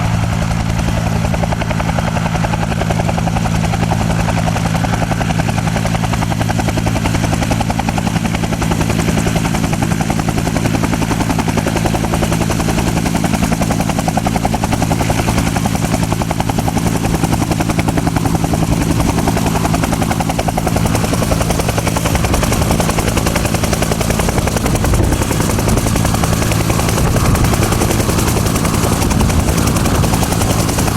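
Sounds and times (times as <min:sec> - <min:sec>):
helicopter rotor and engine: 0:00.0 - 0:30.9.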